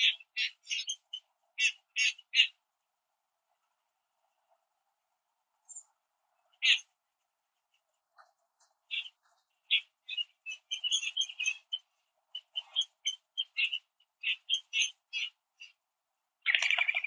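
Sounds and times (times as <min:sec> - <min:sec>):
small birds chirping: 0:00.0 - 0:02.7, 0:05.4 - 0:17.0.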